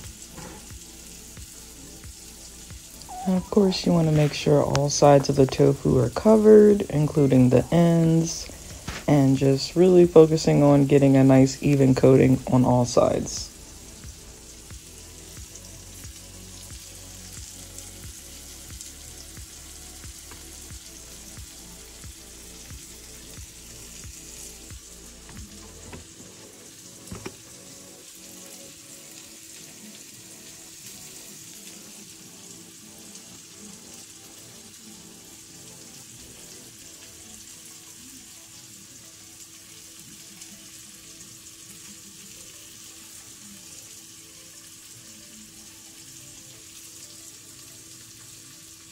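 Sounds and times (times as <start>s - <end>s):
vegetables sizzling in a pan: 0.0s - 48.9s.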